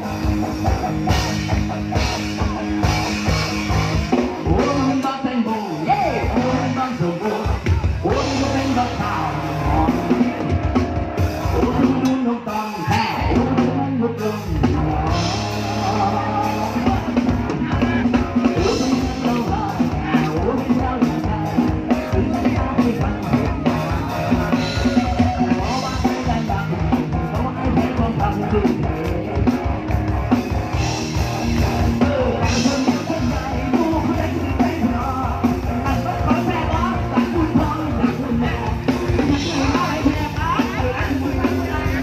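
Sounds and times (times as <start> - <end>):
drum kit beat: 0.0 - 42.0
live band music: 0.0 - 42.0
person singing: 0.0 - 42.0.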